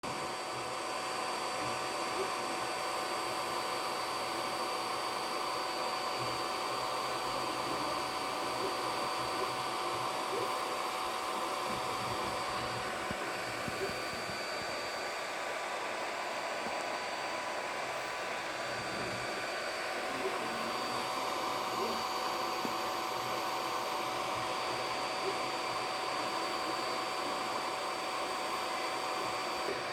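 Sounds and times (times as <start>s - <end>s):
fans whirring: 0.0s - 29.9s.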